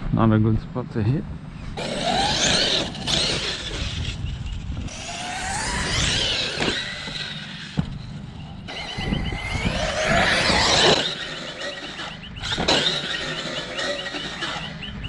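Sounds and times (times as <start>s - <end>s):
rush of tyres and drivetrain: 1.6s - 15.0s
electric motor whine: 1.8s - 15.0s.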